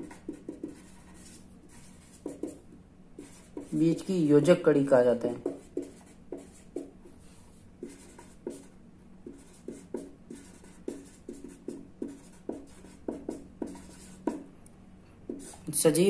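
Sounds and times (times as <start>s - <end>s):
marker pen scratching on paper: 0.0s - 4.0s, 5.3s - 7.2s, 7.8s - 14.5s, 15.3s - 15.7s.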